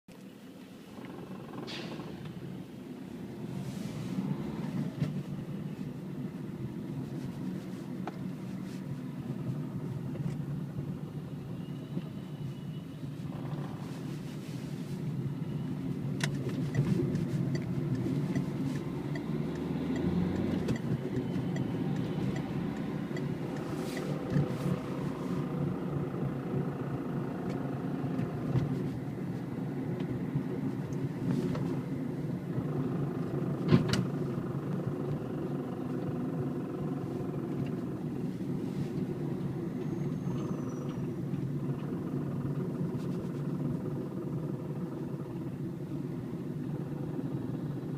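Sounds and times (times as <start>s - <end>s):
diesel engine rumbling: 0.2s - 47.9s.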